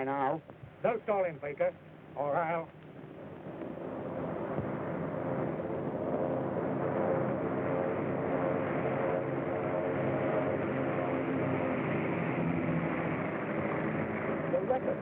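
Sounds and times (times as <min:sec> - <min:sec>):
vehicle engine drone: 0:01.1 - 0:15.0.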